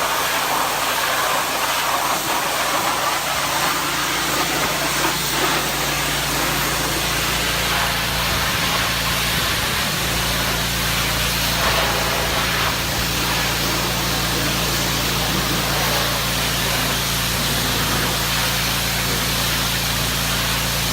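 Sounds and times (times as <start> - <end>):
pressure washer water jet hissing: 0.0 - 20.9.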